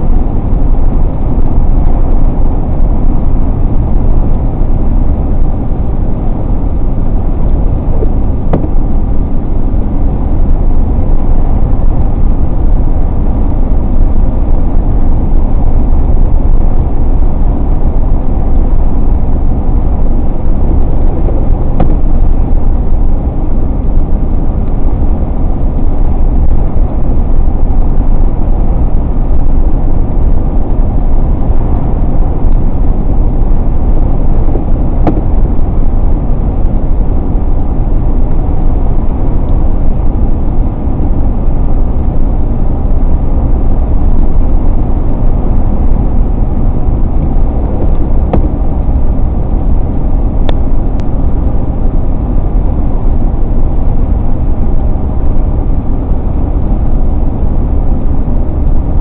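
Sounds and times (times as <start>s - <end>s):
car engine: 0.0s - 59.0s
tyre road noise: 0.0s - 59.0s
wind: 0.0s - 59.0s.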